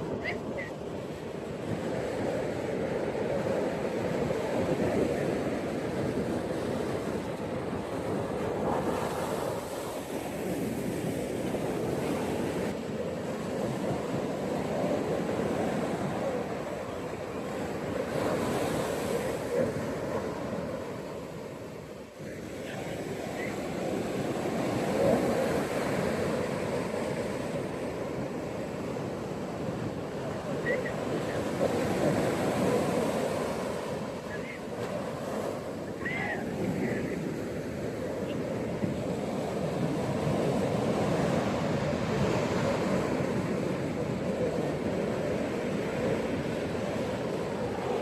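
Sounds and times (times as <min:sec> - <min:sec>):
ocean waves washing onto beach: 0:00.0 - 0:48.0.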